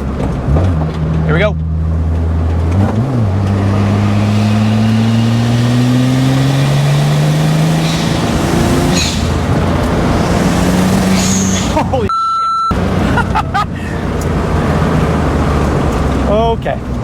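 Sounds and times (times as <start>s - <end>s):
car engine revving under full throttle: 0.0s - 12.0s, 12.7s - 17.0s.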